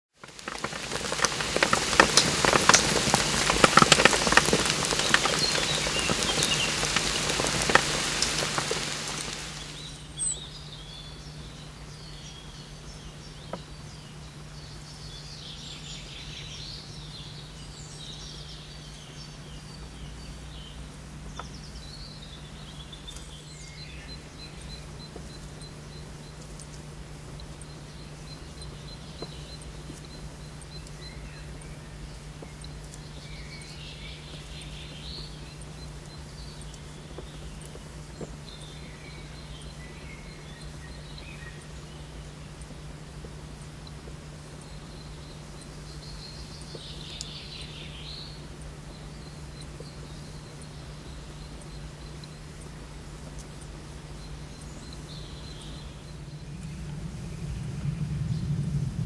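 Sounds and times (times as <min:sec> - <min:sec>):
crackling hiss: 0:00.1 - 0:59.0
birds chirping: 0:00.2 - 0:59.0
low steady hum: 0:00.2 - 0:59.0.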